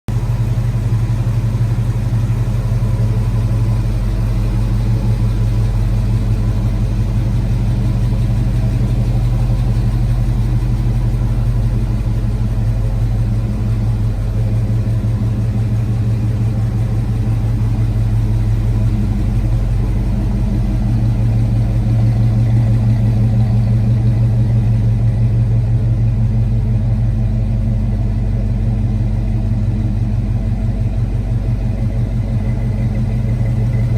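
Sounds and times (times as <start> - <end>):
pickup truck engine idling: 0.1 - 33.9.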